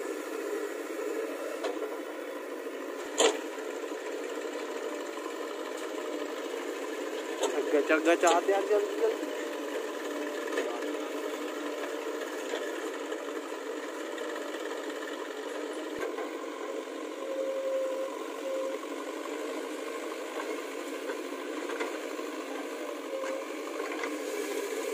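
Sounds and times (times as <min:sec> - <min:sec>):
diesel engines running: 0:00.0 - 0:24.9.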